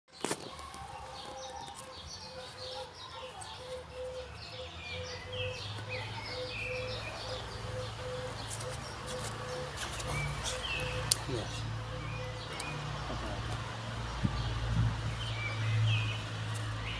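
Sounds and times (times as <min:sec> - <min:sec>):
small birds chirping: 0:00.1 - 0:16.9.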